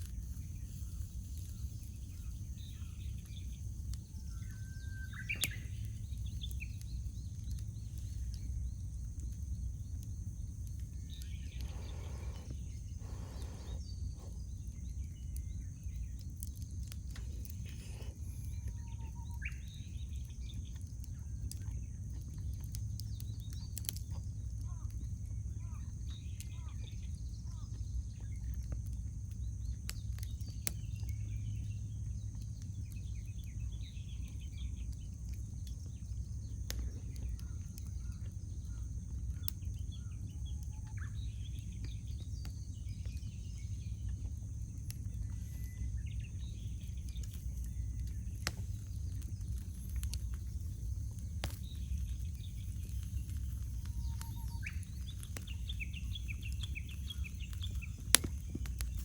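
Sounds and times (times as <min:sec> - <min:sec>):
campfire crackling: 0:00.0 - 0:59.0
small birds chirping: 0:00.0 - 0:59.0
steady low rumble: 0:00.0 - 0:59.0.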